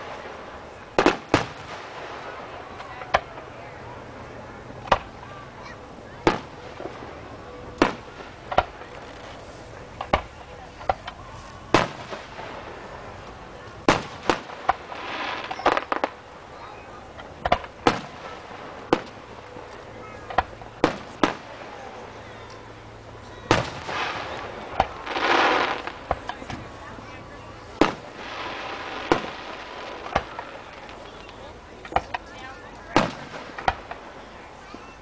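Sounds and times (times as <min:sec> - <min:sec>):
fireworks bursting with bangs: 0:00.0 - 0:35.0.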